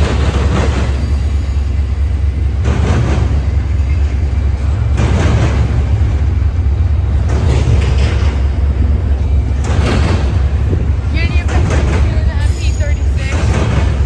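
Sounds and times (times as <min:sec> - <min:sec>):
train passing rumble: 0:00.0 - 0:14.0.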